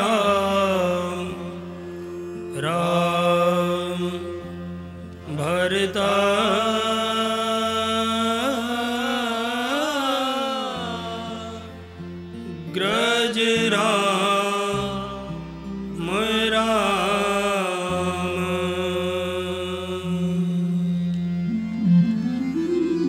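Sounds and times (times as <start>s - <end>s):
man singing: 0.0s - 1.7s, 2.4s - 4.6s, 5.2s - 11.8s, 12.7s - 21.0s
harmonium chords: 0.0s - 23.0s.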